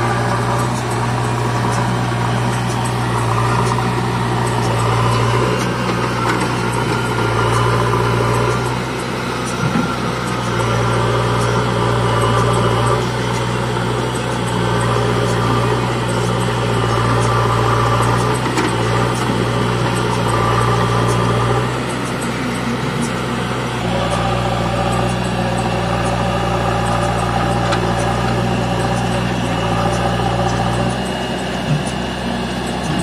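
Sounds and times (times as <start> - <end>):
backhoe loader engine idling: 0.0 - 33.0
tractor diesel engine idling: 0.0 - 33.0.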